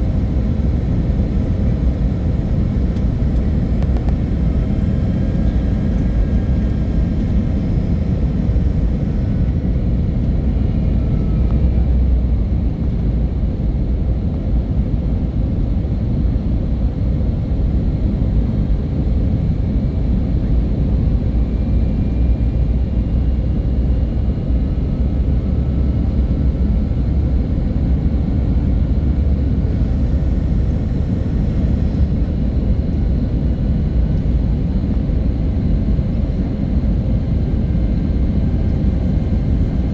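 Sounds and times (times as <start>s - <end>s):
airliner engine rumble: 0.0s - 39.9s.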